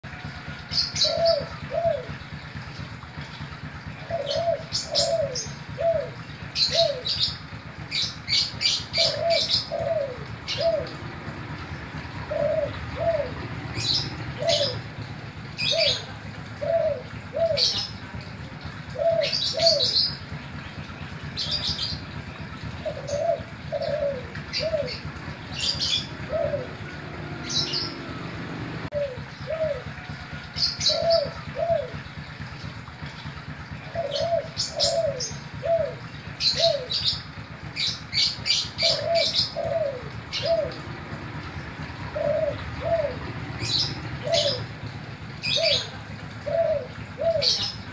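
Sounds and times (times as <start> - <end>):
dove cooing: 0.2 - 47.9
small birds chirping: 0.7 - 29.9, 30.6 - 47.9.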